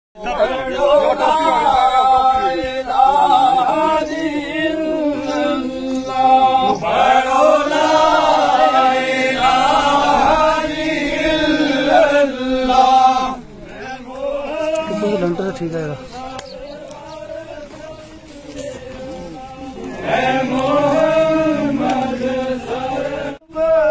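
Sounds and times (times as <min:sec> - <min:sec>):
men chanting together: 0:00.2 - 0:23.9.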